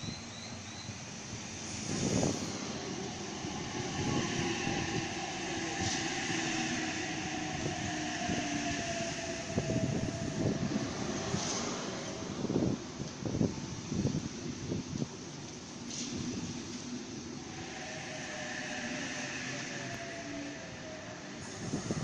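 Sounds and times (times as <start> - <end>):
electric train whine: 0.0 - 22.0
train wheels rumbling on rails: 0.0 - 22.0.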